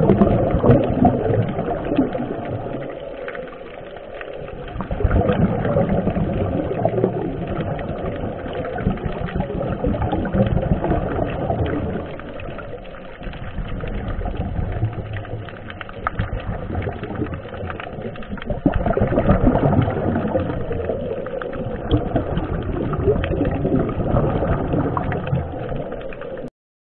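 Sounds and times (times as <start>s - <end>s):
underwater regulator bubbles: 0.0s - 26.5s.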